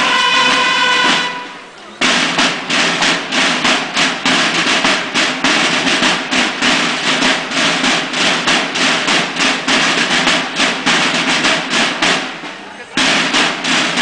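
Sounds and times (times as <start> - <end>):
snare drums marching beat: 0.0 - 14.0.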